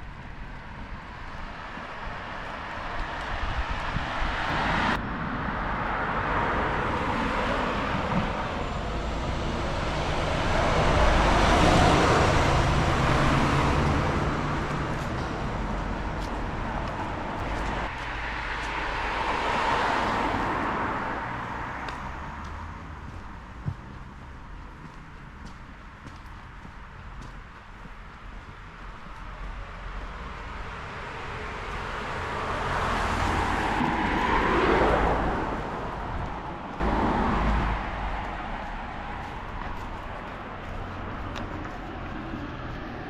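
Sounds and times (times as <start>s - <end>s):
cars passing by: 0.0s - 43.0s.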